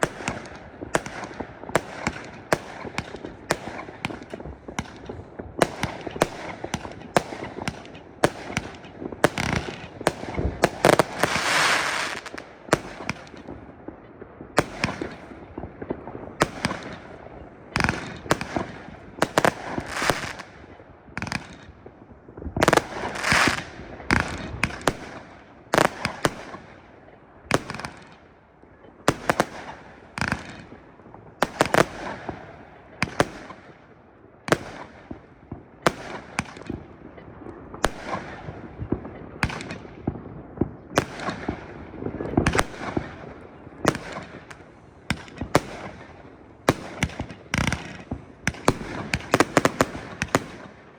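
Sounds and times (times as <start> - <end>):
fireworks bangs: 0.0 - 28.4, 29.0 - 50.9.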